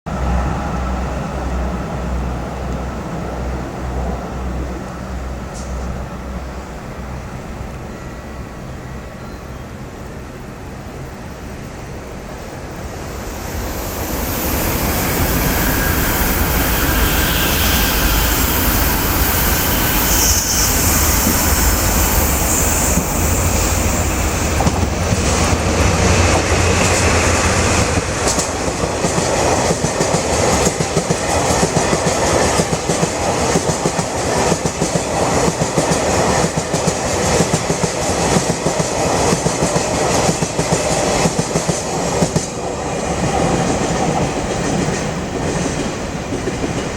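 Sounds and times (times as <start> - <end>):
diesel locomotive engines: 0.1 - 46.9.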